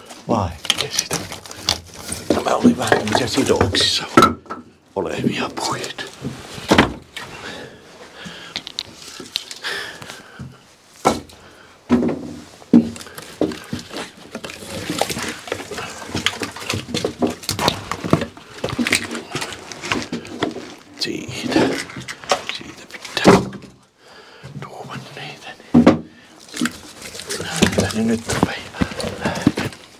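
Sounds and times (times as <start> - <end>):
firewood logs clattering: 0.0 - 22.5, 25.7 - 29.9.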